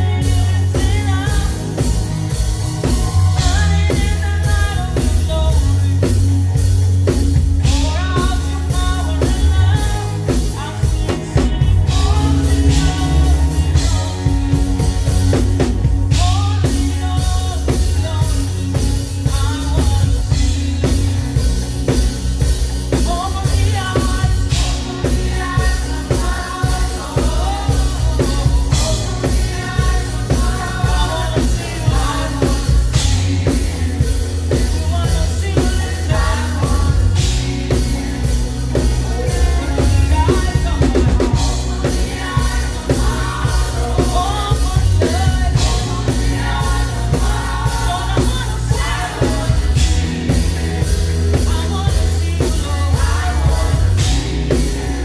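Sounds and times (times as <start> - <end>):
deep bass line: 0.0 - 55.0
drum kit: 0.0 - 55.0
person singing: 0.0 - 55.0.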